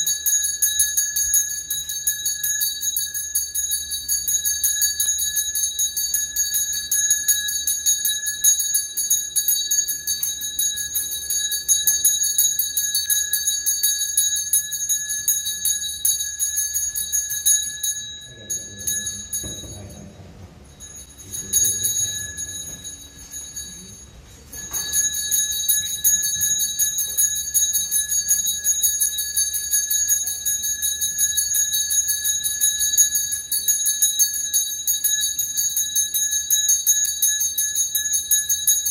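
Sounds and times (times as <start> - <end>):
small bell ringing: 0.0 - 38.9.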